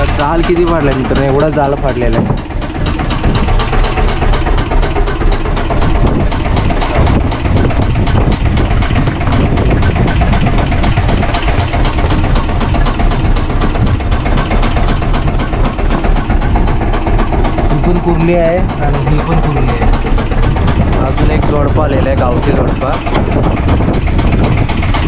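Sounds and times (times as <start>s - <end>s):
boat engine idling: 0.0s - 25.0s
wind rumble on microphone: 0.0s - 25.0s.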